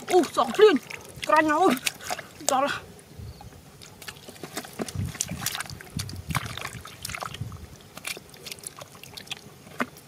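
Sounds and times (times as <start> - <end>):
hands squelching through wet mud: 0.0 - 2.8, 3.7 - 10.0.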